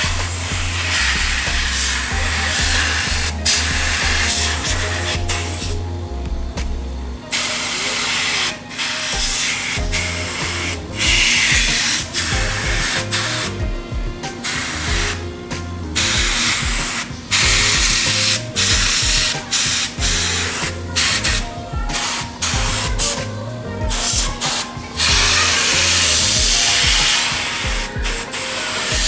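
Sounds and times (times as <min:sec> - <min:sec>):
air blow gun hissing: 0:00.0 - 0:29.0.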